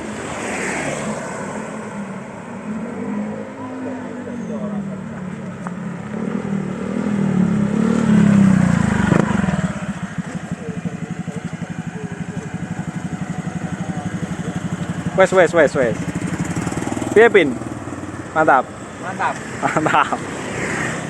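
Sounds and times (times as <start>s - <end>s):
scooter engine revving and idling: 0.0s - 21.0s.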